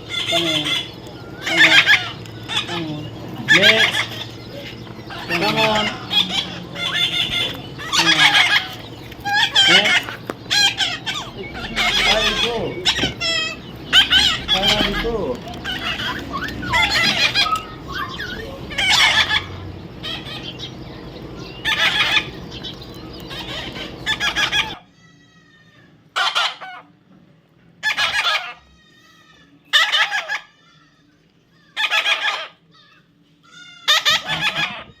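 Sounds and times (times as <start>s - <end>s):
parrot squawking: 0.0s - 27.0s, 27.8s - 35.0s
steady background noise: 0.0s - 35.0s.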